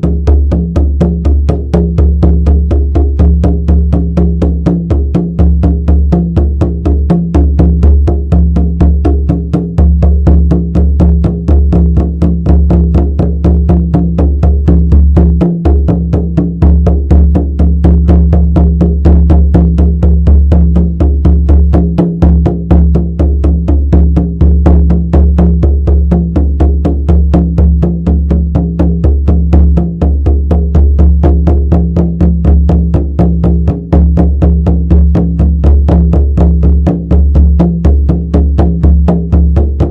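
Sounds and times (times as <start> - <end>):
frame drum beating: 0.0 - 39.9.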